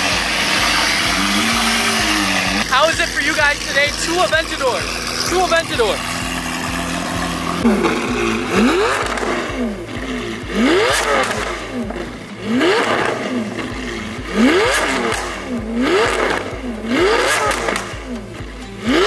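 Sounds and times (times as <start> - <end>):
car engine revving: 0.0 - 19.0
exhaust pops and crackles: 0.0 - 19.0.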